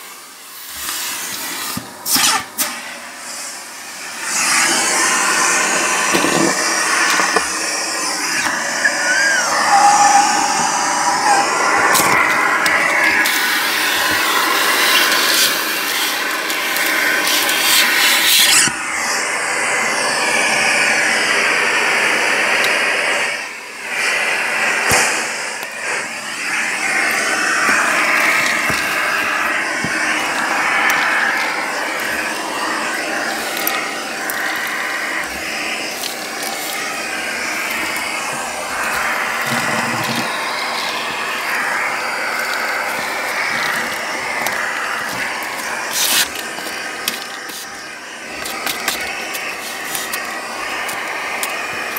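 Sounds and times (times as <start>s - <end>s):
vacuum cleaner hose sucking: 0.0s - 51.9s.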